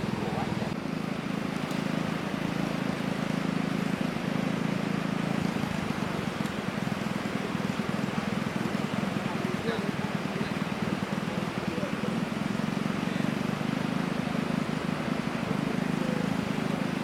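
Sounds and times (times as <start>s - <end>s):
constant hiss: 0.0s - 17.0s
small engine running: 0.0s - 17.0s.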